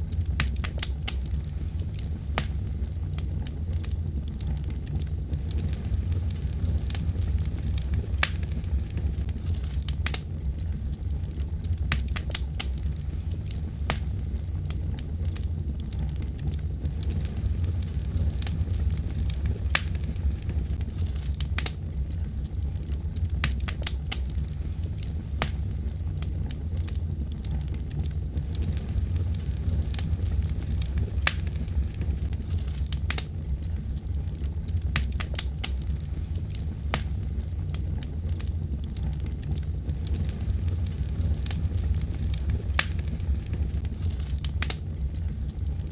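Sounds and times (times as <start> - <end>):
fire crackling and popping: 0.0 - 45.9
wood fire rumbling: 0.0 - 45.9.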